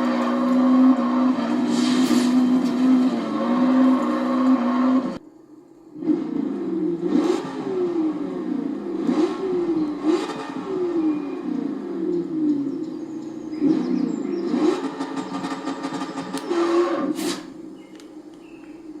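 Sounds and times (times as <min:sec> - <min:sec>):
vehicle engine revving: 0:00.0 - 0:05.2, 0:06.0 - 0:18.1.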